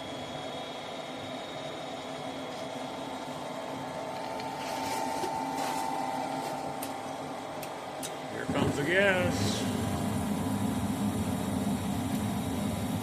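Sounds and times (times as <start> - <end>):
furnace fan humming: 0.0 - 13.0.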